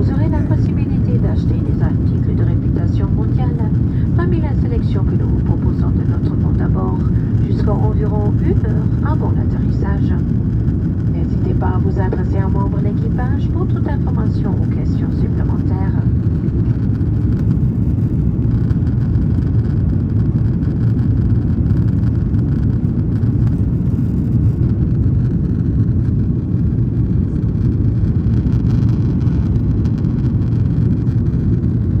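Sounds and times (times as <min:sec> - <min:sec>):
jet engine cabin rumble: 0:00.0 - 0:32.0.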